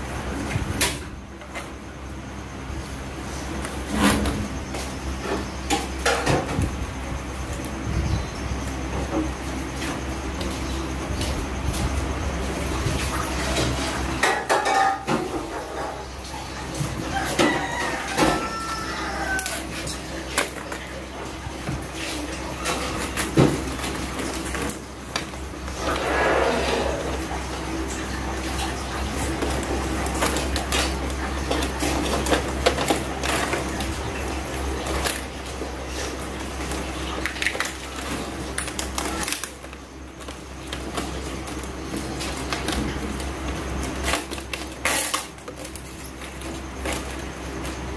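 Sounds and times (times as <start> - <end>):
electrical wires clicking and scraping: 8.9 - 47.9.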